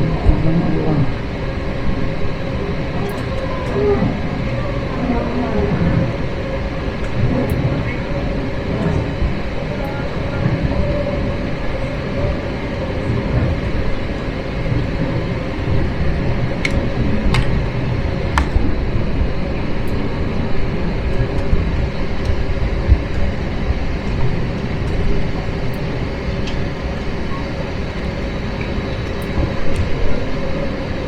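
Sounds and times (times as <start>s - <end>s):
jet engine cabin rumble: 0.0s - 31.0s.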